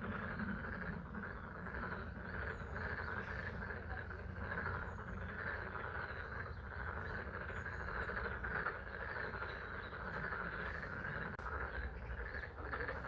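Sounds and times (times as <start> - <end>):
chorus of frogs calling: 0.0 - 13.0.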